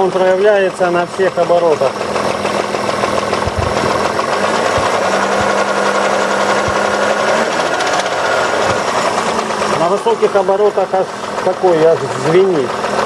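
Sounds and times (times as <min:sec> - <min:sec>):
car engine running: 0:00.0 - 0:13.0
fast even engine knock: 0:00.0 - 0:13.0.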